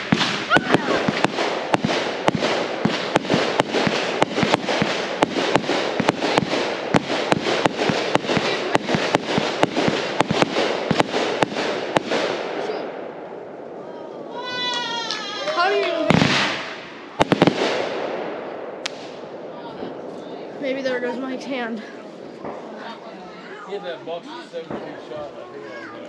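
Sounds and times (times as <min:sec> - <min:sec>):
firework bangs: 0:00.0 - 0:13.6, 0:14.3 - 0:23.1, 0:24.6 - 0:25.4.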